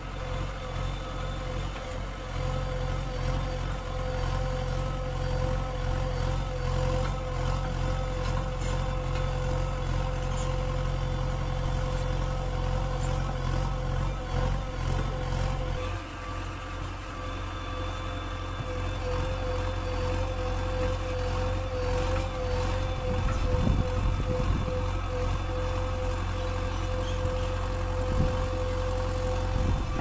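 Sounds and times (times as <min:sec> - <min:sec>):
backhoe digging earth: 0:00.0 - 0:30.0
diesel engine running: 0:00.0 - 0:30.0.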